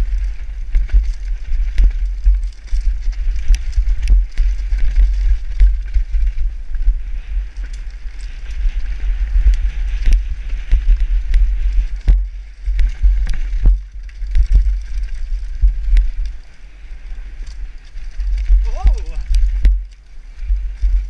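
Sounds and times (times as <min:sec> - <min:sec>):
bike knocks and rattles: 0:00.0 - 0:06.8, 0:08.9 - 0:16.2, 0:17.4 - 0:21.0
tyres hissing on dirt trail: 0:00.0 - 0:21.0
wind buffeting microphone: 0:00.0 - 0:21.0.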